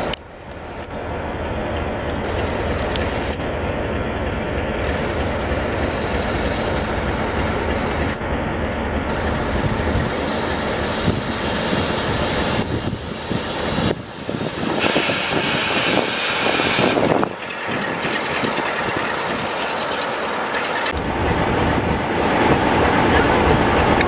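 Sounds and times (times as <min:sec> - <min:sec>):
train passing close by: 0:00.0 - 0:24.0.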